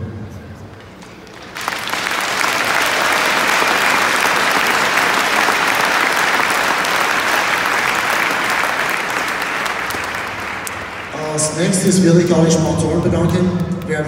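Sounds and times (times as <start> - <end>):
crowd applauding: 1.0 - 14.0.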